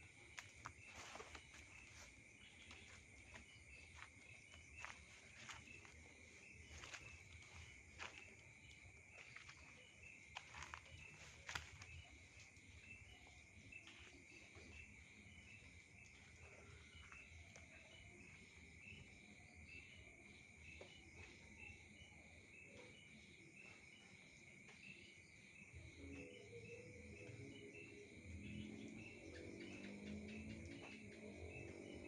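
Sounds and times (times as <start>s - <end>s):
high insect trill: 0.0s - 32.0s.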